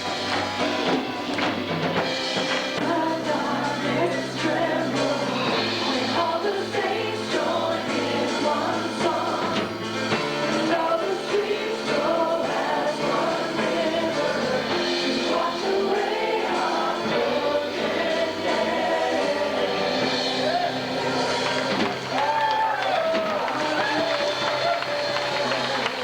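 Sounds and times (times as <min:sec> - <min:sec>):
group of voices singing: 0:00.0 - 0:22.2
band accompaniment: 0:00.0 - 0:26.0.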